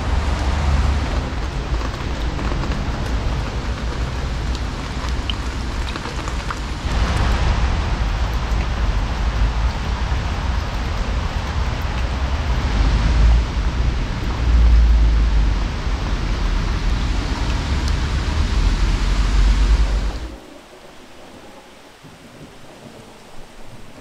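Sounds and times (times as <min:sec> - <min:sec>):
deep rumble: 0:00.0 - 0:21.7
heavy rain: 0:00.0 - 0:24.0.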